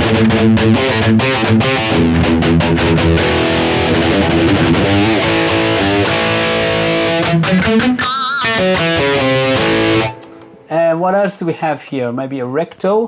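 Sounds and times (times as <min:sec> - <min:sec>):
distorted electric guitar: 0:00.0 - 0:10.7.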